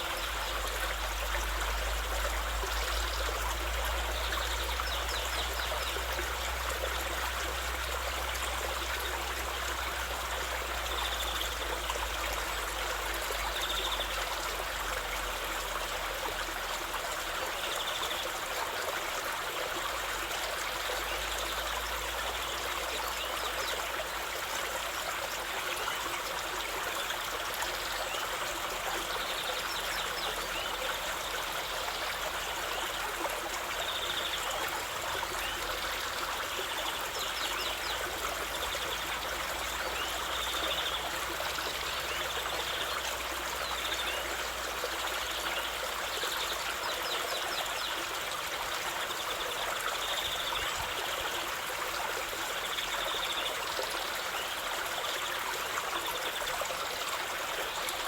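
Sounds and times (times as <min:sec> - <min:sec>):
stream running water: 0:00.0 - 0:58.0.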